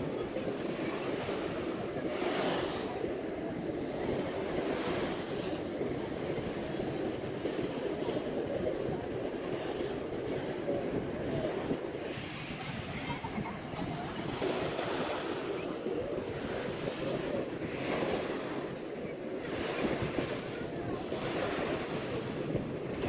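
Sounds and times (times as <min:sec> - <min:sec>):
ocean surf breaking on shore: 0:00.0 - 0:23.0
wind on microphone: 0:00.0 - 0:23.0.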